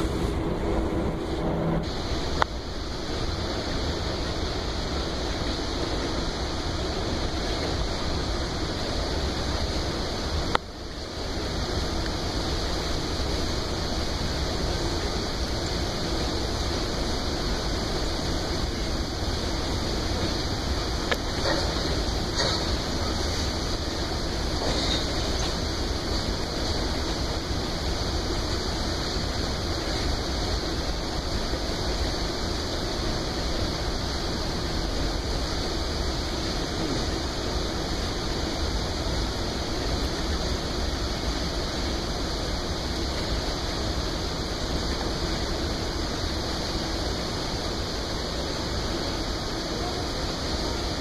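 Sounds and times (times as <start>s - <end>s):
train wheels rolling on rails: 0.0s - 51.0s.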